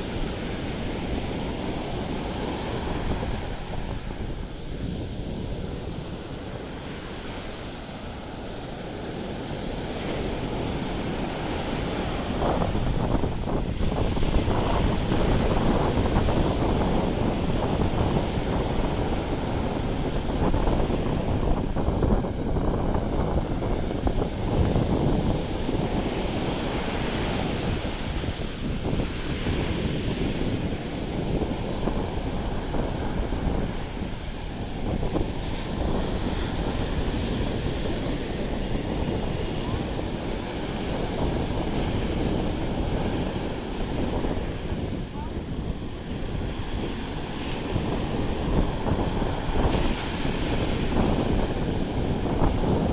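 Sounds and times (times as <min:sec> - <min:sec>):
sea surf breaking on beach: 0:00.0 - 0:52.9
wind rumbling on microphone: 0:00.0 - 0:52.9.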